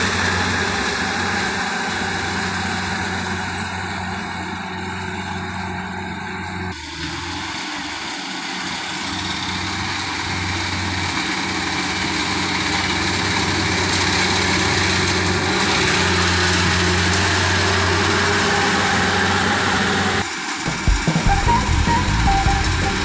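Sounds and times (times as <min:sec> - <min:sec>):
combine harvester engine hum: 0:00.0 - 0:23.0.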